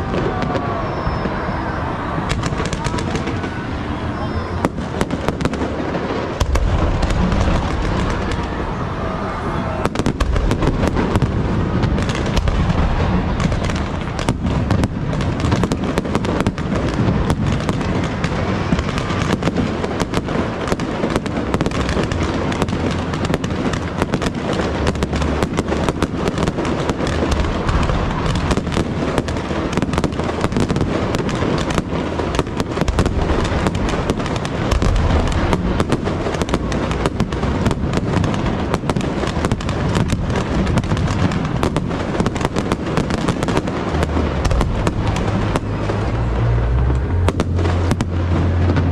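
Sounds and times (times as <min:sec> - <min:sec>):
fireworks bangs and crackling: 0:00.0 - 0:48.9
steady low rumble: 0:00.0 - 0:48.9.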